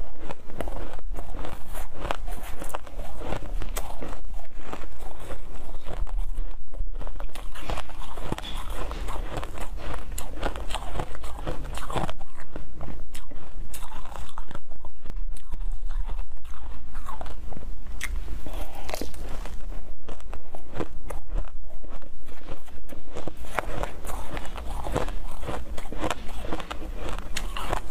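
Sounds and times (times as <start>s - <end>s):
crunching and chewing ice: 0.0s - 27.9s
steady low hum: 0.0s - 27.9s.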